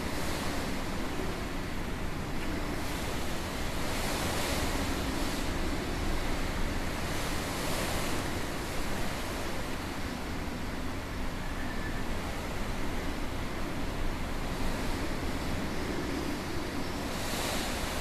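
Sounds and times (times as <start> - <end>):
strong gusting wind: 0.0 - 18.0.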